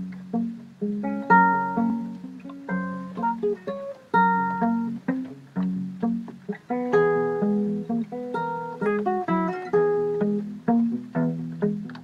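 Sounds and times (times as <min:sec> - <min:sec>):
fingerstyle acoustic guitar: 0:00.0 - 0:12.0.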